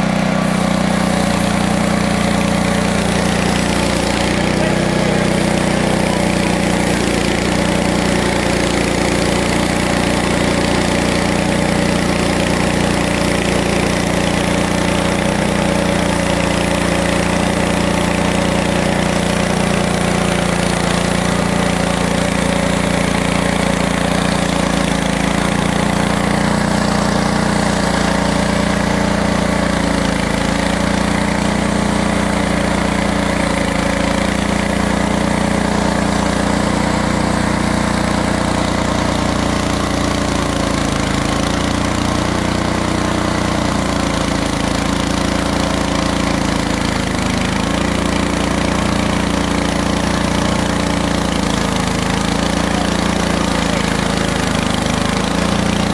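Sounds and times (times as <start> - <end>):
band sawmill running: 0.0 - 55.9.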